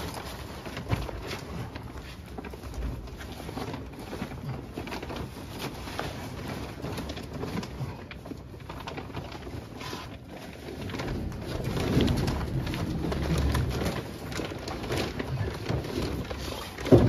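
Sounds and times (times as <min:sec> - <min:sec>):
plastic sheeting rustling: 0:00.0 - 0:17.0.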